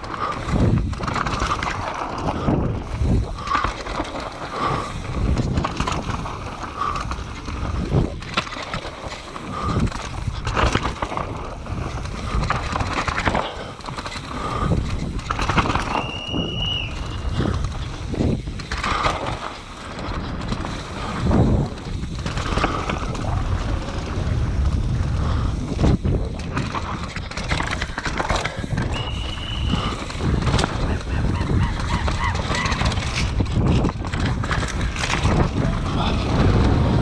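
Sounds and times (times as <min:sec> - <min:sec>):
bike rattling and knocking: 0:00.0 - 0:37.0
bike tyres rumbling over dirt: 0:00.0 - 0:37.0.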